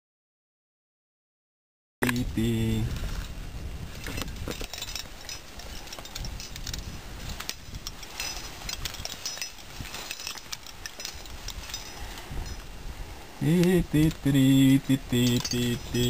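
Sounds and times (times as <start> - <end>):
wind rumble on microphone: 2.1 - 16.0
climbing gear clinking: 3.0 - 16.0.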